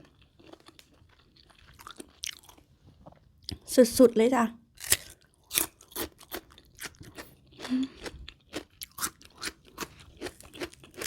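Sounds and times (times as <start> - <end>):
chewing crunchy food: 0.0 - 3.7, 4.8 - 11.0.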